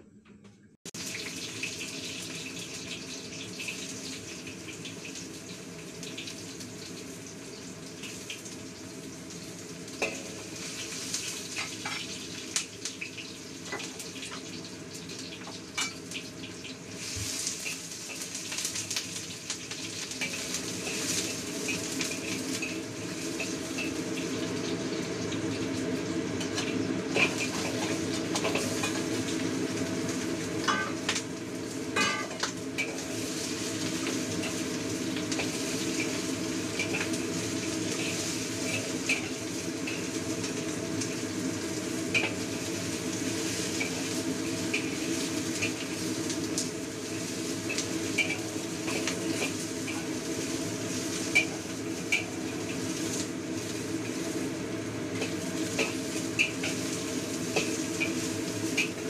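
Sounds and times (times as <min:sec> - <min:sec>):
meat sizzling in a wok: 0:00.9 - 0:59.0.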